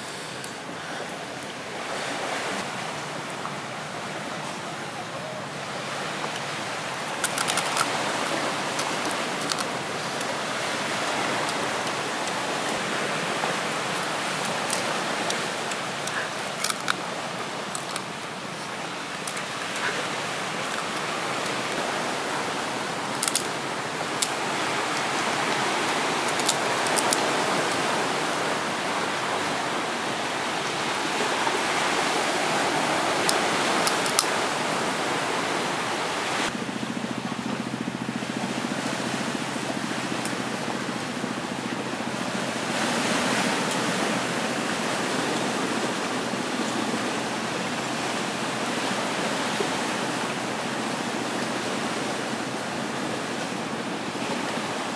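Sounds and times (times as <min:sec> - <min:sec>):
sea water washing on rocks: 0:00.0 - 0:37.0, 0:38.0 - 0:54.9.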